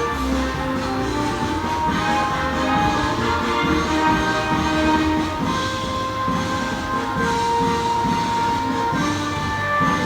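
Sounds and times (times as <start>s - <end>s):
held musical notes: 0.0s - 10.0s
steady low beat: 0.0s - 10.0s.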